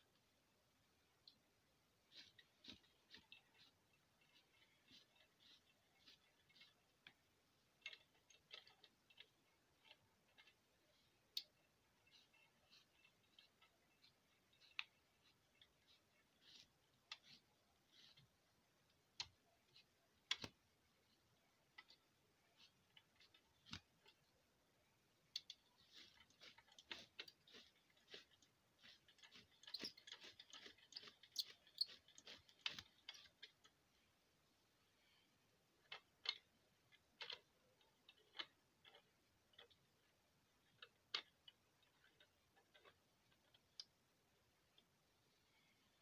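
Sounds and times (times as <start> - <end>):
faint clicks and knocks: 1.0 - 34.1, 34.9 - 46.0.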